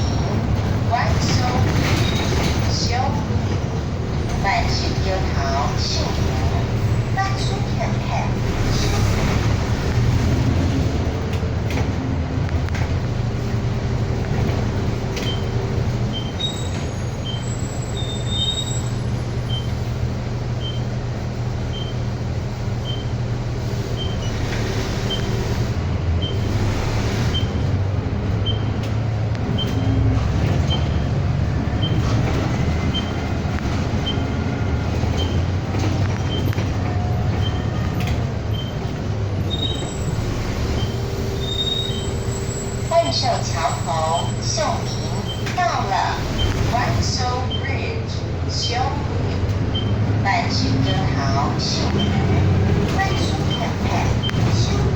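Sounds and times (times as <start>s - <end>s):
bus engine drone: 0.0s - 54.9s
road rumble: 0.0s - 54.9s.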